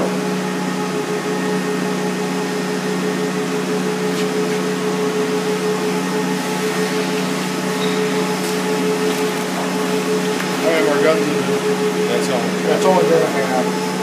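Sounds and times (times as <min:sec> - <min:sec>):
machine motor humming: 0:00.0 - 0:14.0.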